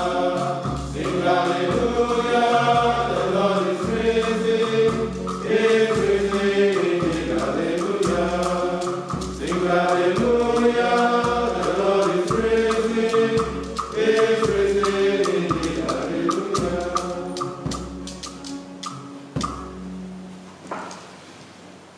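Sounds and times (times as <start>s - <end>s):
male choir chanting: 0.0s - 17.7s.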